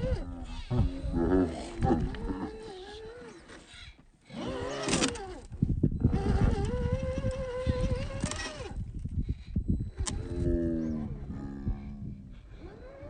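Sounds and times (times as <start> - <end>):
electric motor whining: 0.0 - 11.9.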